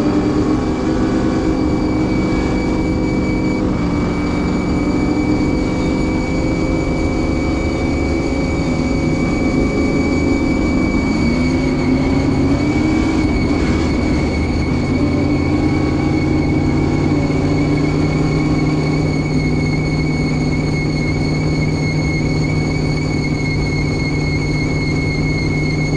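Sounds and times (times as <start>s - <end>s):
steady high whine: 0.0s - 25.9s
truck engine running hard: 0.0s - 25.9s.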